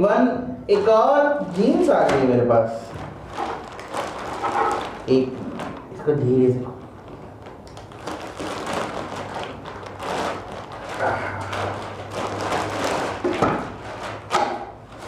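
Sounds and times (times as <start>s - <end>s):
plastic bag crinkling: 1.4s - 15.0s.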